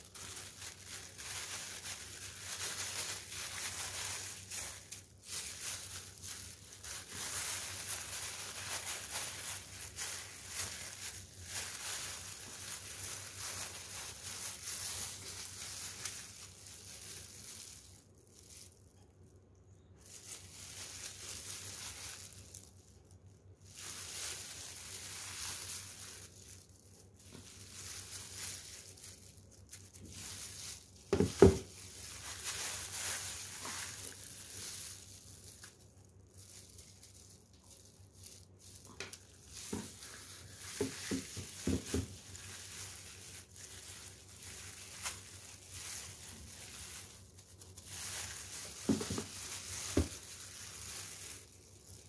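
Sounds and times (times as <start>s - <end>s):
plastic gloves crinkling: 0.0s - 52.0s.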